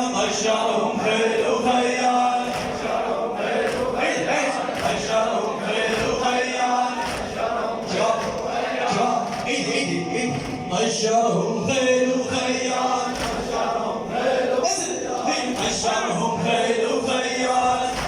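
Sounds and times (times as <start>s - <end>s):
men chanting a religious poem: 0.0s - 18.0s.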